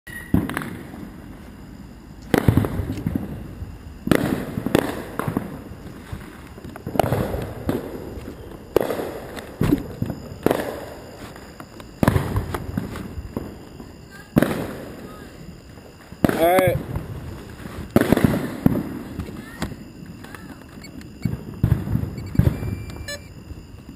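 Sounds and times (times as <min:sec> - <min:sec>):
fireworks banging with echo: 0:00.1 - 0:23.9.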